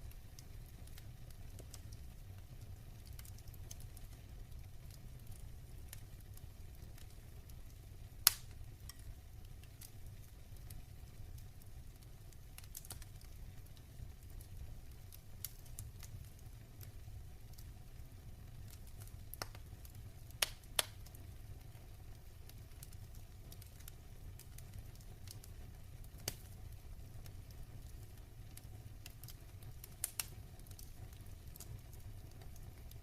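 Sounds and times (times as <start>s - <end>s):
fire popping: 0.0s - 33.0s
wood fire burning: 0.0s - 33.0s.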